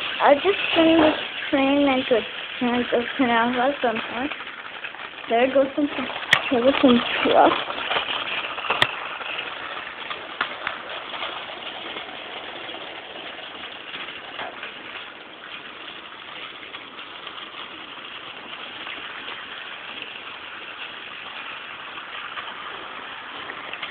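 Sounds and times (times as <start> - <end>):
toy train whirring on track: 0.0 - 23.9.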